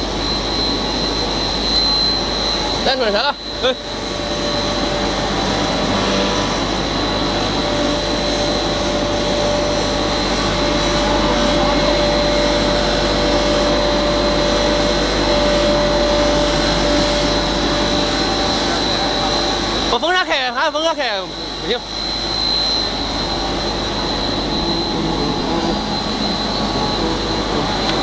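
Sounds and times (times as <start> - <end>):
machine whir with high whine: 0.0 - 28.0.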